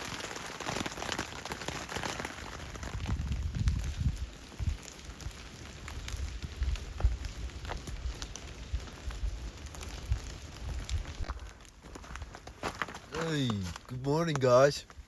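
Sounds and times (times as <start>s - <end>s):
rain tapping on tent fabric: 0.0s - 15.0s.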